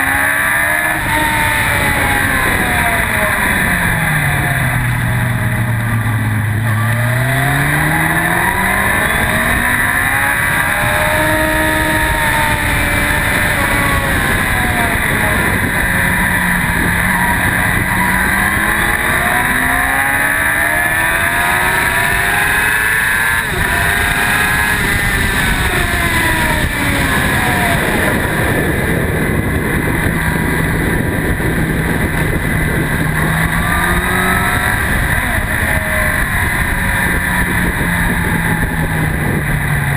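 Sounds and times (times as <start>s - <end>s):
motorcycle engine revving: 0.0s - 39.9s
wind on microphone: 0.0s - 39.9s.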